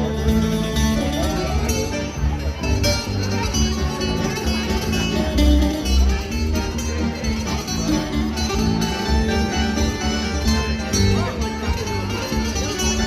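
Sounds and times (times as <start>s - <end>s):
bass beat: 0.0s - 13.0s
plucked string music: 0.0s - 13.0s.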